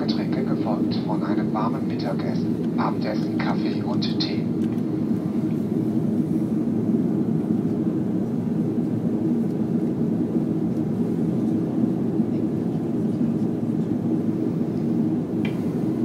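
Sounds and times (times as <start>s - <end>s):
airplane cabin engine roar: 0.0s - 16.0s.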